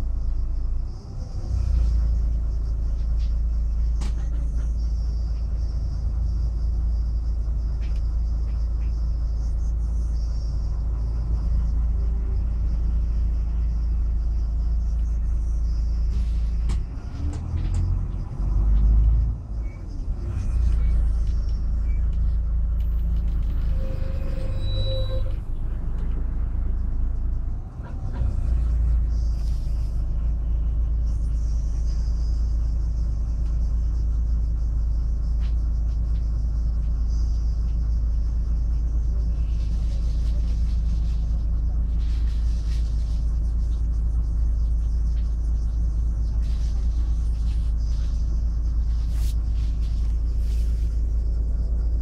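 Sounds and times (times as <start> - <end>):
bus engine rumble: 0.0 - 52.0.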